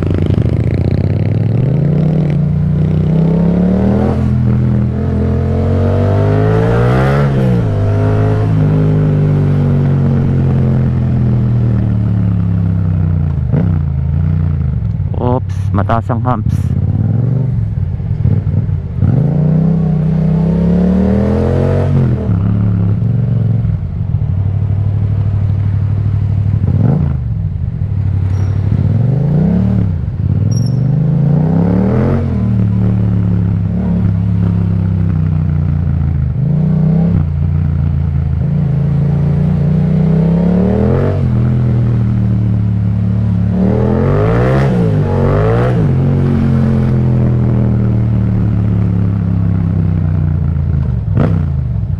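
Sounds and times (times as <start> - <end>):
motorcycle engine revving: 0.0 - 15.7, 16.4 - 51.9.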